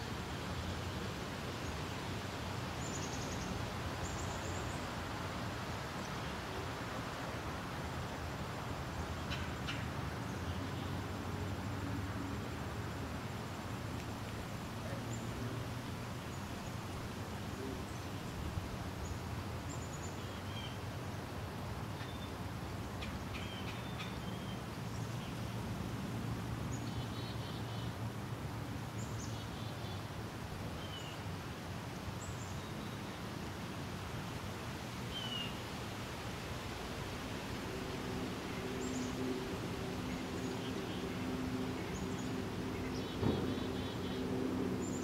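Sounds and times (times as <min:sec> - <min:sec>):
outdoor background hiss: 0:00.0 - 0:45.0.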